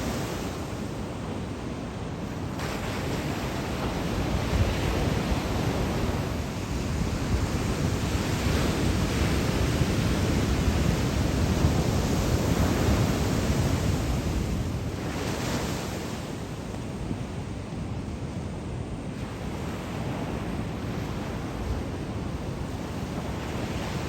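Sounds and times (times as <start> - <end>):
surf breaking ashore: 0.0 - 24.0
wind buffeting microphone: 0.0 - 24.0.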